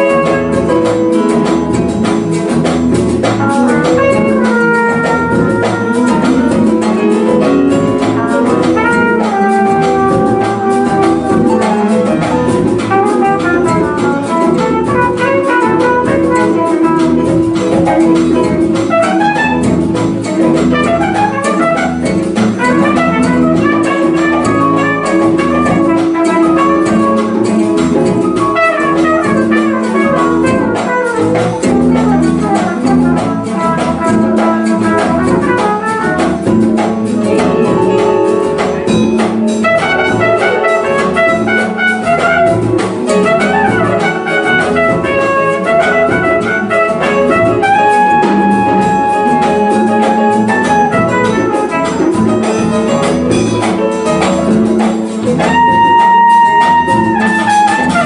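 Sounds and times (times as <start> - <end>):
saxophone: 0.0 - 1.1, 3.5 - 6.9, 8.0 - 36.8, 38.5 - 58.0
trumpet: 0.0 - 2.6, 3.2 - 58.0
congas: 0.0 - 58.0
guitar: 0.0 - 58.0
piano: 0.0 - 58.0.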